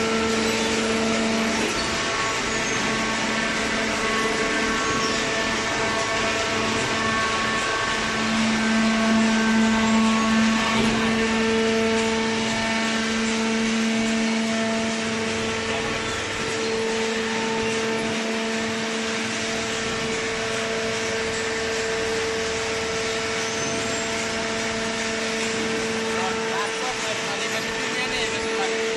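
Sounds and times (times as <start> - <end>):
hydraulic baler humming: 0.0 - 28.9.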